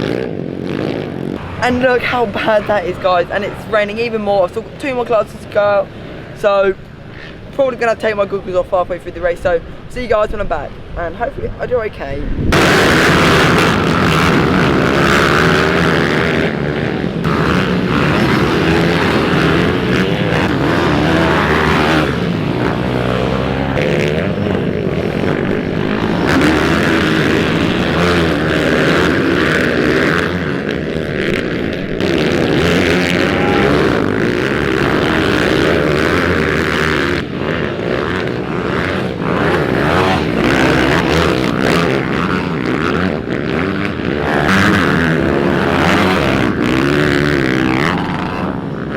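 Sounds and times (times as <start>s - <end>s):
motorbike engine revving hard: 0.0s - 6.4s, 12.5s - 48.9s.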